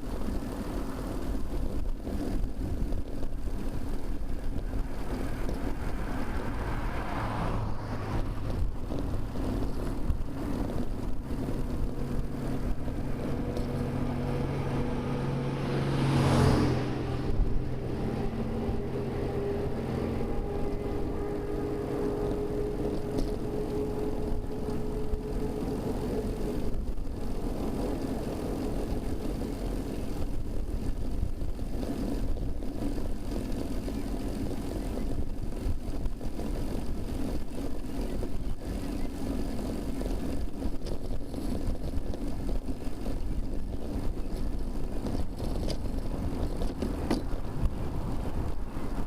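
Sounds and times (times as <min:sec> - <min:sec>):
traffic rumble: 0:00.0 - 0:49.0
wind noise: 0:00.0 - 0:49.0.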